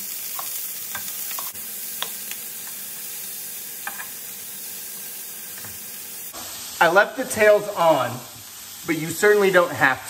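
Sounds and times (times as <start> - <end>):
shrimp sizzling in oil: 0.0 - 10.0.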